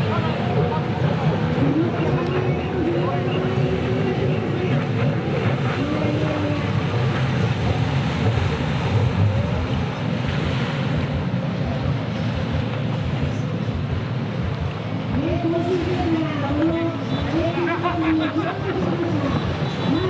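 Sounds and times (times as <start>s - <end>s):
jet ski engine running: 0.0s - 20.0s
surf washing in shallows: 0.0s - 20.0s
wind buffeting microphone: 0.0s - 20.0s.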